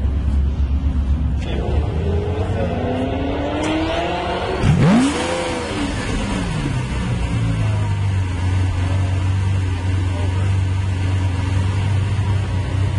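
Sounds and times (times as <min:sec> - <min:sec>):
sports car engine revving: 0:00.1 - 0:12.9.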